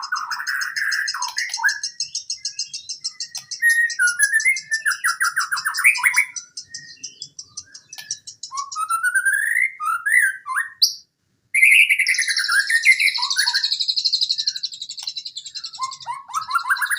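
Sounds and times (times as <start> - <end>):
songbird whistling and trilling: 0.0 - 16.9.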